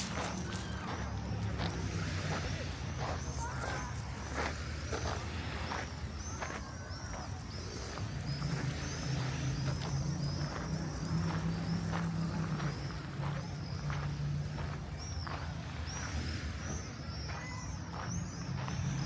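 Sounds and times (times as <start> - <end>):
low engine hum: 0.0 - 17.2
birds chirping: 0.0 - 19.0.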